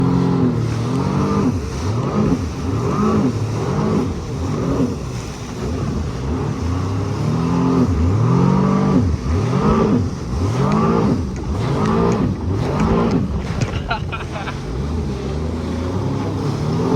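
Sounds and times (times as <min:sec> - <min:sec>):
jet ski engine revving: 0:00.0 - 0:16.9.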